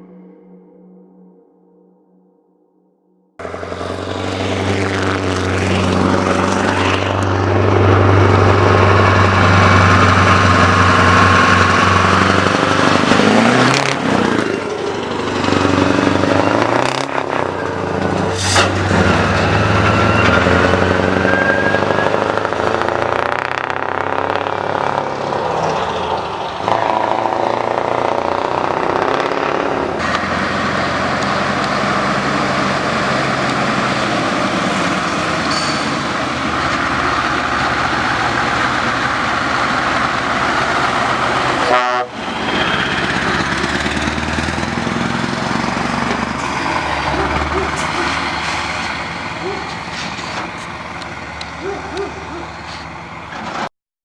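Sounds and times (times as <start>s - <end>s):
diesel truck engine driving by: 3.4s - 53.7s.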